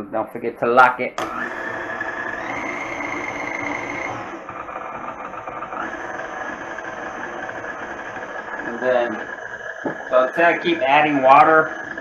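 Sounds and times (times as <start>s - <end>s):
stand mixer motor whining: 1.2s - 12.0s.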